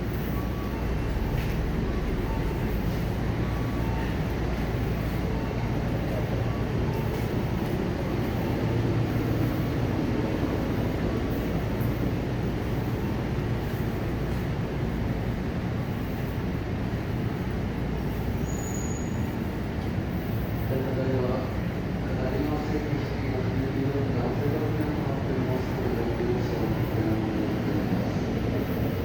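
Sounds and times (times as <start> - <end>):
train rumbling and humming: 0.0 - 29.0.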